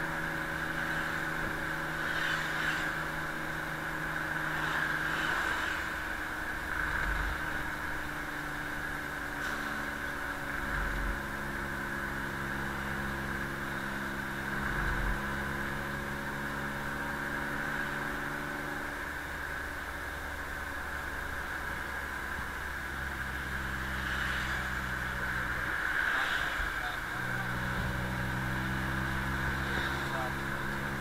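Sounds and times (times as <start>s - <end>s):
road noise: 0.0s - 31.0s
truck engine drone: 0.0s - 31.0s.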